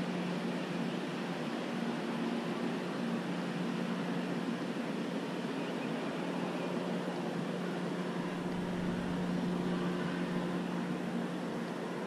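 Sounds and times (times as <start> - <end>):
engine drone: 0.0 - 12.0
rushing background noise: 0.0 - 12.0.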